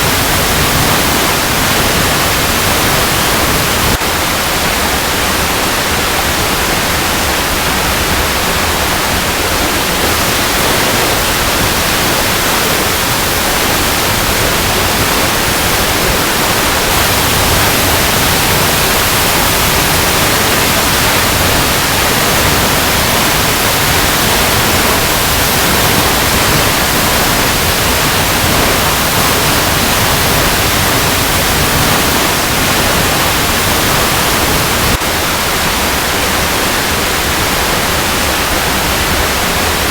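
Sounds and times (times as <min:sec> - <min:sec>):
waterfall cascading over rocks: 0:00.0 - 0:39.9.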